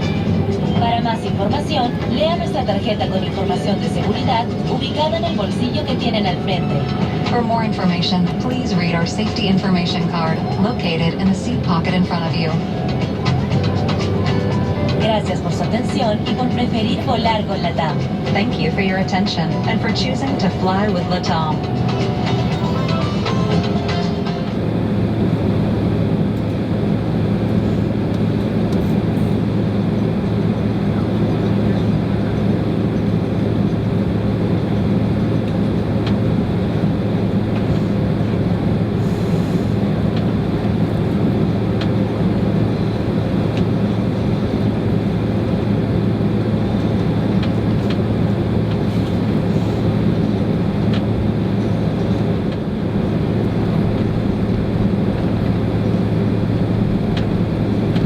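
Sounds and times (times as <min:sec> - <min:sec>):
airplane cabin hum: 0:00.0 - 0:58.0.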